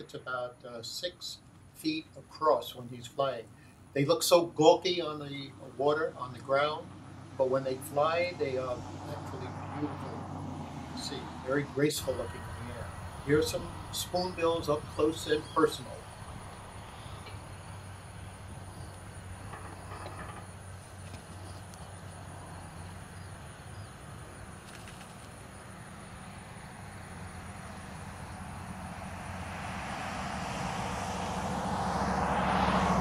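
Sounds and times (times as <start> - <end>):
steady low hum: 0.0 - 33.0
vehicle approaching: 0.0 - 33.0.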